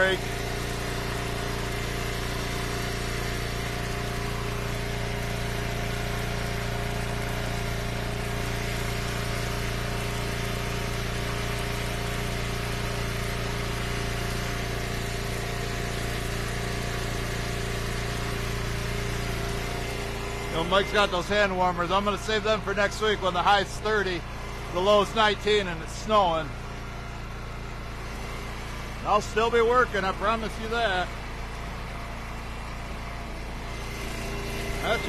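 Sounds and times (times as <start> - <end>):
gasoline engine idling: 0.0 - 35.0.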